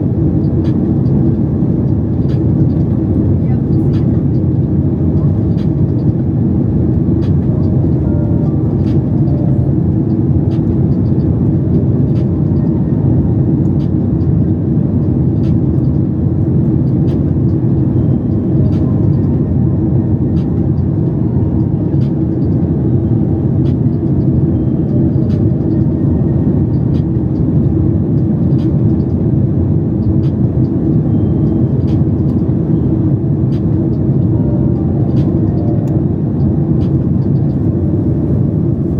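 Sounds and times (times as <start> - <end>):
jet cabin engine rumble: 0.0 - 38.9.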